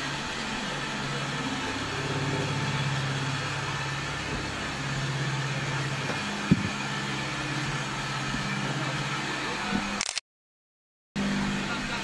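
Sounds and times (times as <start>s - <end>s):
low mechanical hum: 0.0s - 10.1s, 11.2s - 12.0s.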